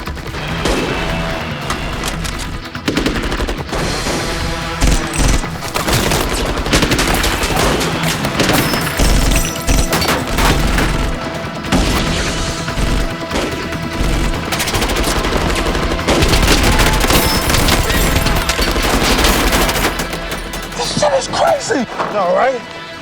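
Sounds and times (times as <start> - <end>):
rapid automatic gunfire: 0.0 - 21.8
action film score: 0.0 - 23.0.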